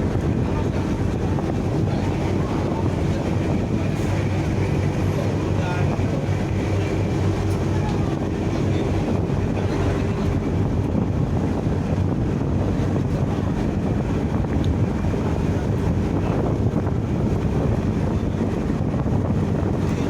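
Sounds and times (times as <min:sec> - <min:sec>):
ship engine humming: 0:00.0 - 0:20.0
wind on microphone: 0:00.0 - 0:20.0.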